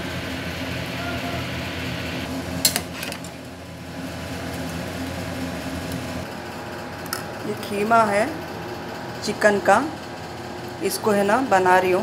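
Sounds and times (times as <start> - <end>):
fan-like hum: 0.0 - 12.0.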